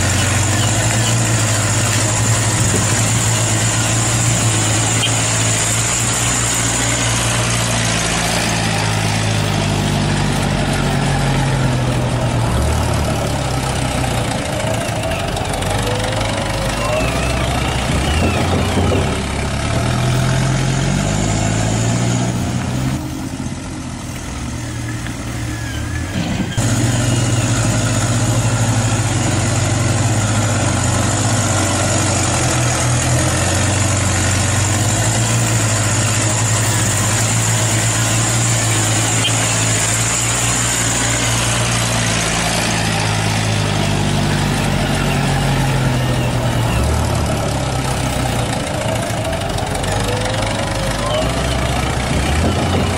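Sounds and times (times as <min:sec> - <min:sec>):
toy truck engine running: 0:00.0 - 0:22.0, 0:24.4 - 0:52.9.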